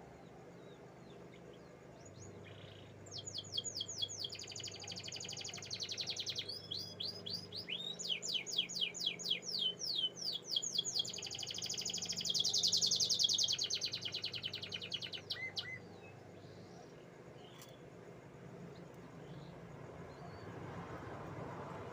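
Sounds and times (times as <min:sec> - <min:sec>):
canary singing trills: 0:00.0 - 0:17.9.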